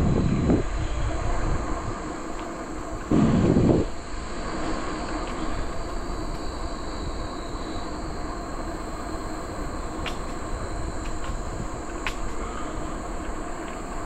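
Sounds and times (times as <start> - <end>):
bicycle rolling rumble: 0.0 - 14.0
insects droning: 0.0 - 14.0
wind on microphone: 0.0 - 14.0.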